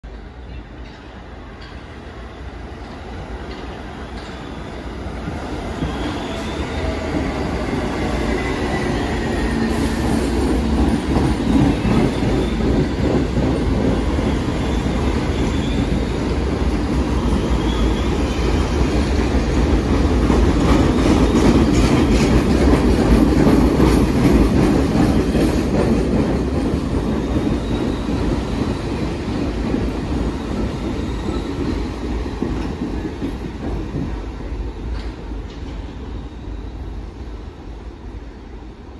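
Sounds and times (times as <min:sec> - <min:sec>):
subway train rumbling: 0:00.0 - 0:38.9.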